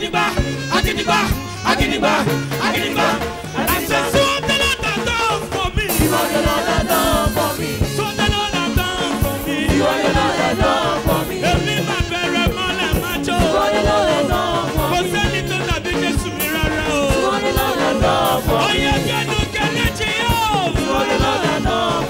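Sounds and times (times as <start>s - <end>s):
live gospel band music: 0.0s - 22.0s.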